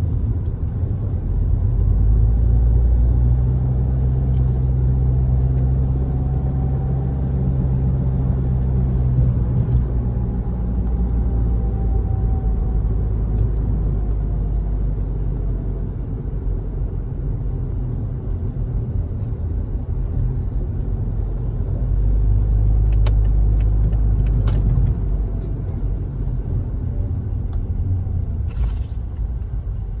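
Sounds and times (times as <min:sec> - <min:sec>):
car driving low rumble: 0:00.0 - 0:30.0.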